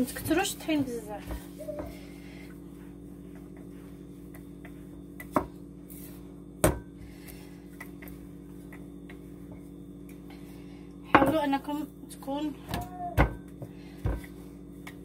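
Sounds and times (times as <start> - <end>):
rolling pin rolling dough: 0.0 - 15.0
steady low hum: 0.0 - 15.0.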